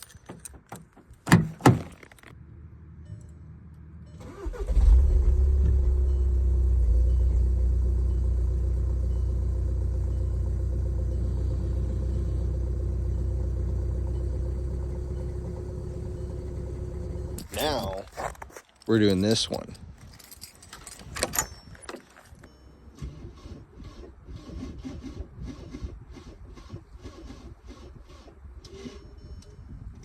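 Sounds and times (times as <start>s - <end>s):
diesel engine starting and idling: 0.0s - 18.0s, 21.3s - 30.0s
faint engine whine: 0.0s - 24.4s.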